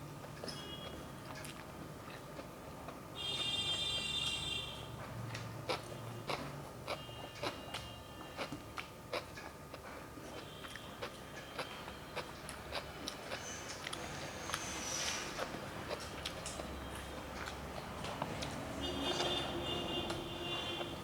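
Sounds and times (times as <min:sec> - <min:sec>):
person chewing with wet smacks: 0:00.2 - 0:04.3, 0:05.0 - 0:21.0.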